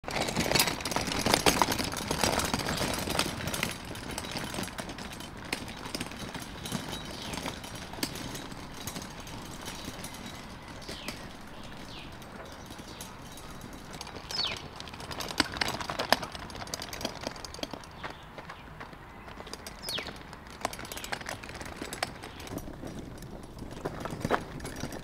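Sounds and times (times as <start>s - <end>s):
wagon wheels rattling on gravel: 0.0s - 25.0s.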